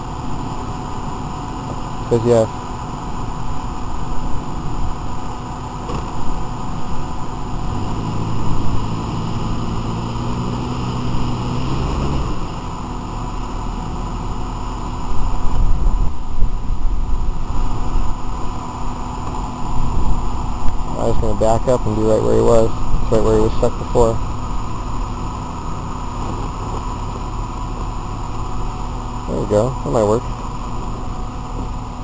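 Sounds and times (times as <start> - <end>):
off-road vehicle engine: 0.0 - 32.0
steady rushing noise: 0.0 - 32.0.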